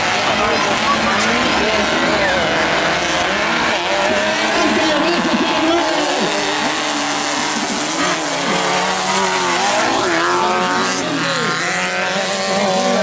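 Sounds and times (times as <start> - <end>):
racing buggy engines revving: 0.0 - 13.0.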